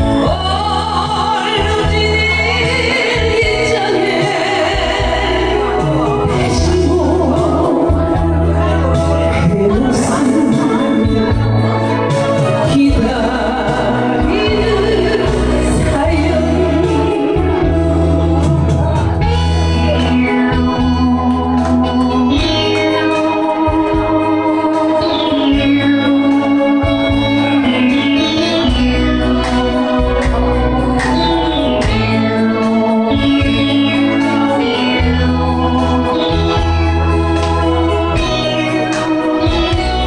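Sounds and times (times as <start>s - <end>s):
bass line: 0.0s - 40.0s
electronic keyboard playing: 0.0s - 40.0s.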